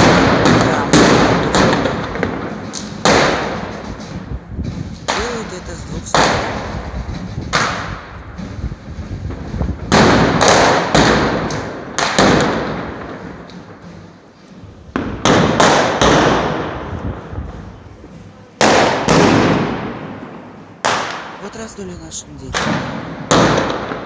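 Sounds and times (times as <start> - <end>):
firecrackers exploding: 0.0 - 24.0.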